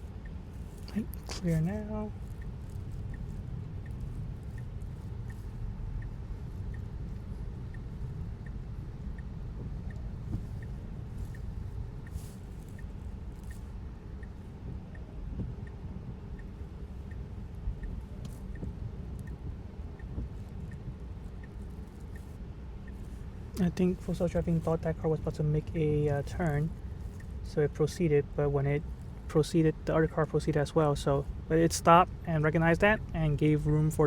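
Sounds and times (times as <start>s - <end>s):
road and tyre noise: 0.0s - 34.0s
turn signal ticking: 0.0s - 34.0s.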